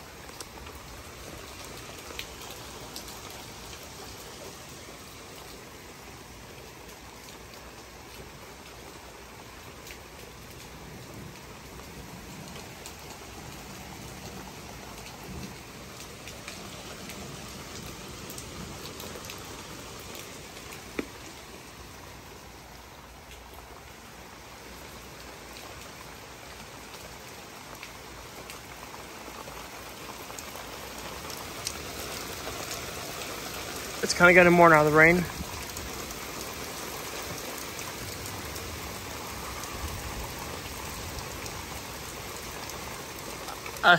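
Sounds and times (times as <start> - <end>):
pouring rain hissing: 0.0 - 43.9.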